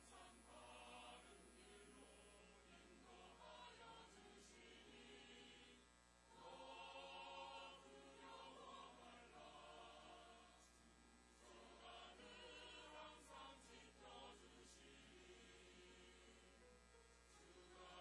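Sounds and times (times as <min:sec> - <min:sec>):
church choir singing a hymn: 0:00.0 - 0:10.8, 0:11.4 - 0:16.5, 0:17.3 - 0:18.0.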